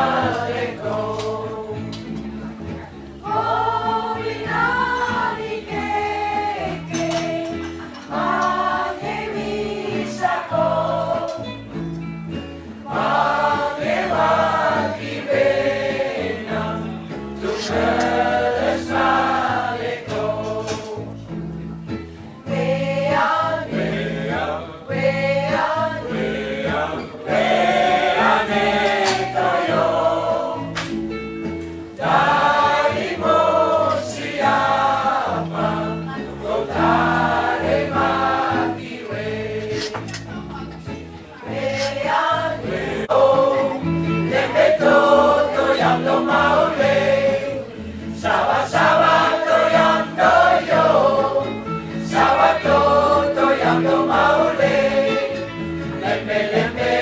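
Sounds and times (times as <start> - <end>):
choir singing: 0.0 - 21.6, 22.4 - 40.4, 41.3 - 57.0.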